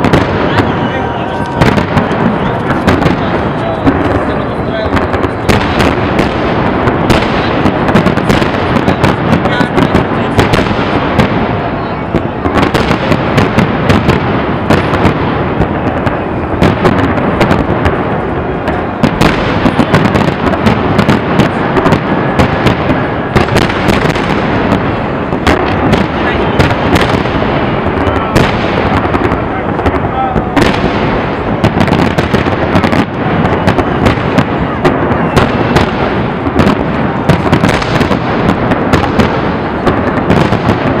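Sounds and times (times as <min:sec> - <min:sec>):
crackling firework stars: 0:00.0 - 0:41.0.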